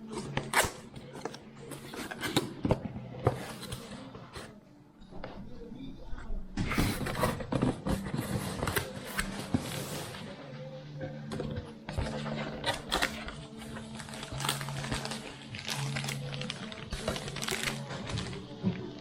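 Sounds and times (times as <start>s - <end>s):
background music with low notes: 0.0s - 19.0s.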